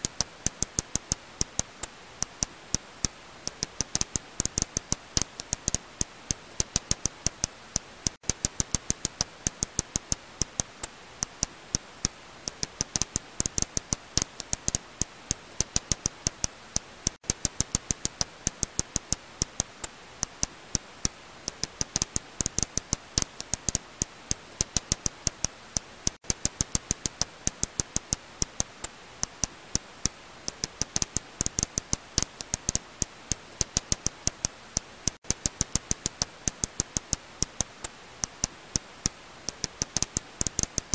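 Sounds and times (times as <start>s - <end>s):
bat echolocation clicks: 0.0s - 40.9s.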